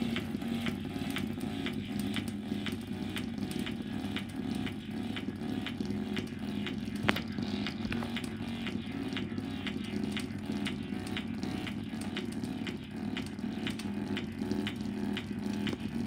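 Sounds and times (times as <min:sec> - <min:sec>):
speaker playing bass-heavy music: 0:00.0 - 0:16.0.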